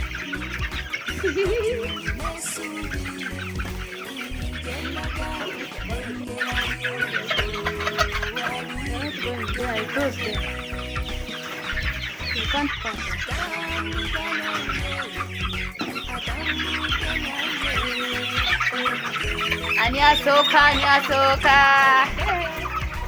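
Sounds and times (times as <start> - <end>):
background music with held tones: 0.0 - 23.0
chickens clucking and squawking: 0.0 - 23.0.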